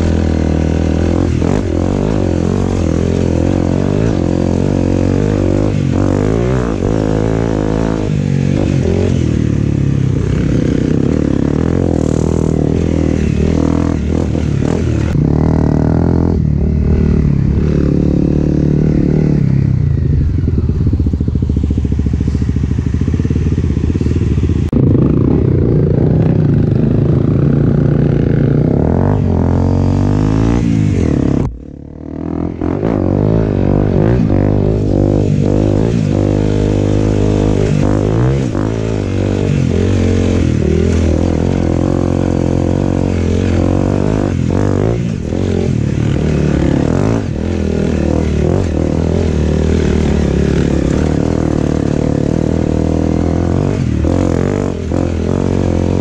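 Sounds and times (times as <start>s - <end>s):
off-road vehicle engine revving: 0.0s - 20.7s, 24.7s - 56.0s.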